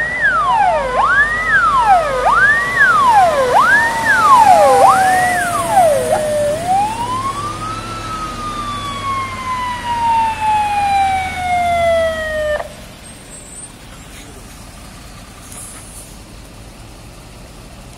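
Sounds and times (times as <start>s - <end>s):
fire engine siren wailing: 0.0s - 17.8s
low engine rumble: 0.0s - 17.9s.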